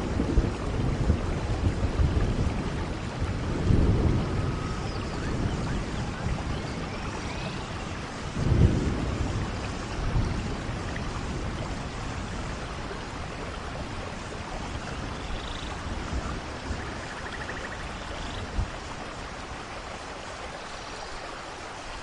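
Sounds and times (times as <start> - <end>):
rain falling in forest: 0.0 - 22.0.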